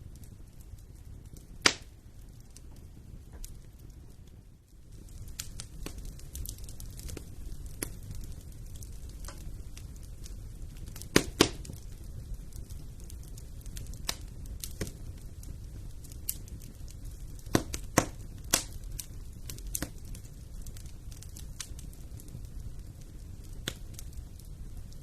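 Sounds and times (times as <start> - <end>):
fire crackles and pops: 0.0 - 25.0
wood fire rumbling: 0.0 - 25.0.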